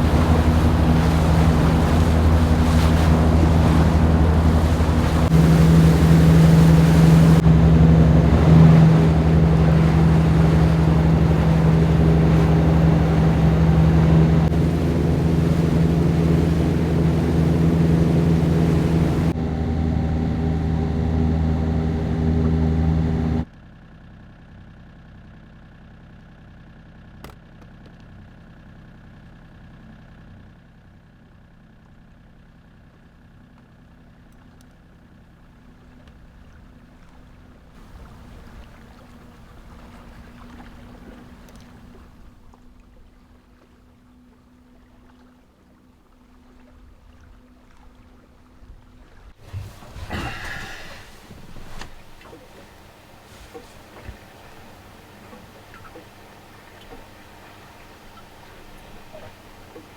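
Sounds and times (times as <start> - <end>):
wind and water noise: 0.0 - 23.5, 34.2 - 59.9
small boat engine running: 0.0 - 59.9.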